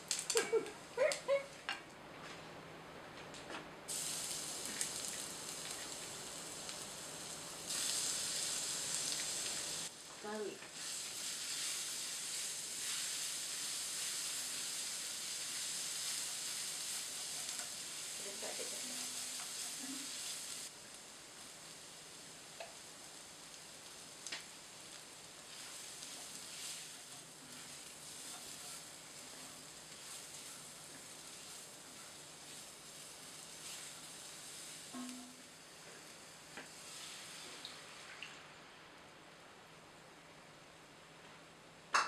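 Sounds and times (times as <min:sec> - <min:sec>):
garlic sizzling in oil: 0:00.0 - 0:01.4, 0:03.9 - 0:38.5
mushrooms frying in pan: 0:00.0 - 0:01.5, 0:03.9 - 0:38.8.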